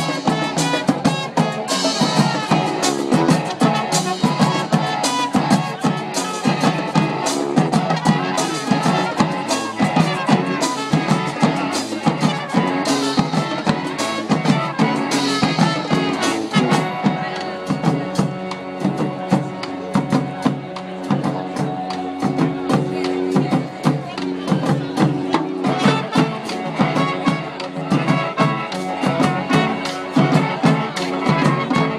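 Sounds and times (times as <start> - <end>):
brass band playing: 0.0 - 31.9
busy drum beat: 0.0 - 31.9.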